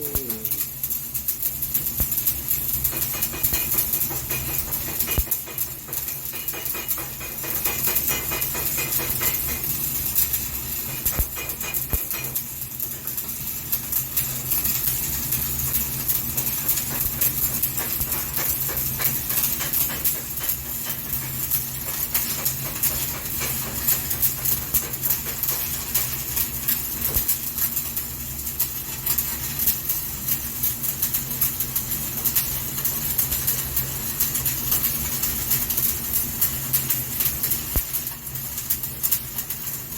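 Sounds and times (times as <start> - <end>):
welding arc crackling sizzle: 0.0 - 39.9.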